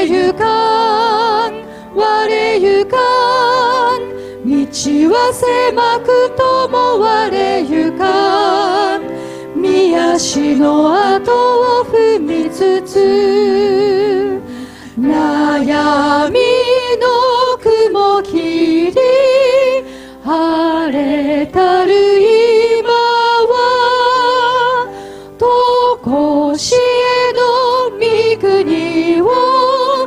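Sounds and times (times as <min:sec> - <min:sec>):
piano accompaniment: 0:00.0 - 0:30.0
women singing a hymn: 0:00.0 - 0:30.0.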